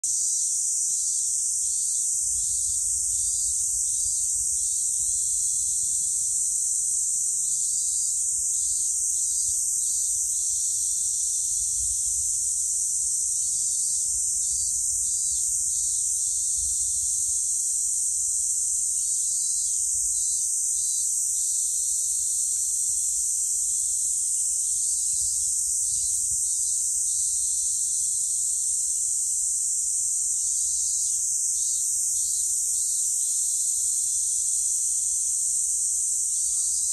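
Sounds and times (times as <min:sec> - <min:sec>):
cicadas droning: 0:00.0 - 0:36.9.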